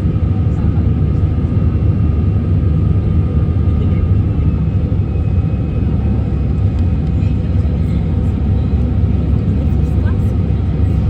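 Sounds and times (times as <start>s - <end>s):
airliner cabin engine rumble: 0.0s - 11.0s
faint engine whine: 0.0s - 11.0s.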